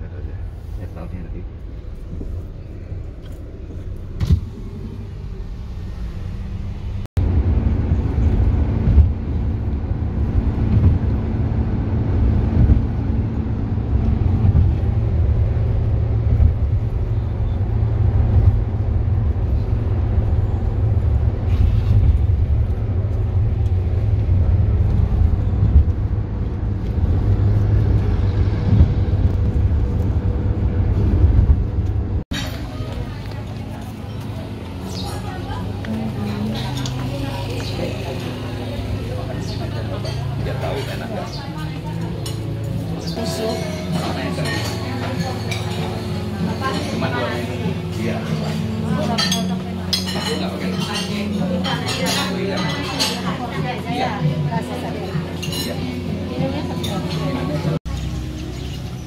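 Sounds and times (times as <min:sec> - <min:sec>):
car cabin road and engine rumble: 0:00.0 - 0:49.9.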